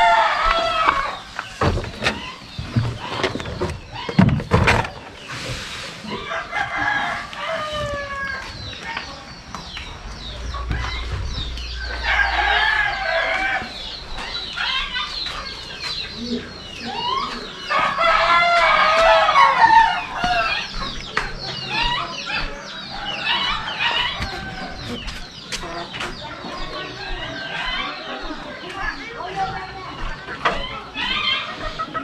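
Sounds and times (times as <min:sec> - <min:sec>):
roosters crowing: 0:00.0 - 0:04.2, 0:06.0 - 0:32.0.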